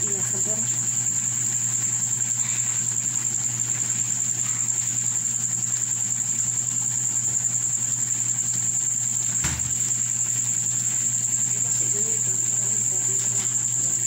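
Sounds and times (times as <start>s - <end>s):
broth simmering in a pan: 0.0s - 14.0s.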